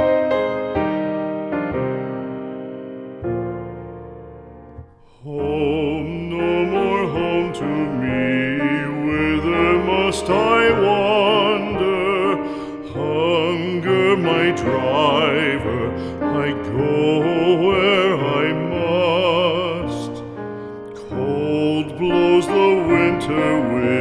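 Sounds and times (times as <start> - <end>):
piano accompaniment: 0.0 - 24.0
piano chord: 0.0 - 24.0.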